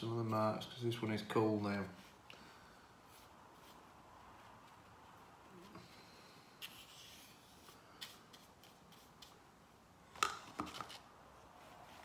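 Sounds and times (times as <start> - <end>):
soft brushing rustle: 0.0 - 9.5, 10.8 - 12.0.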